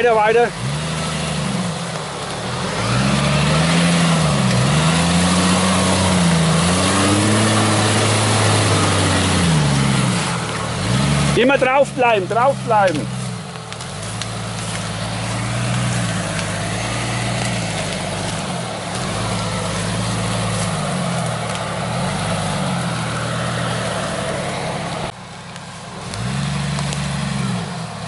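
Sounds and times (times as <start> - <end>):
engine revving under load: 0.0 - 25.2, 26.0 - 28.0.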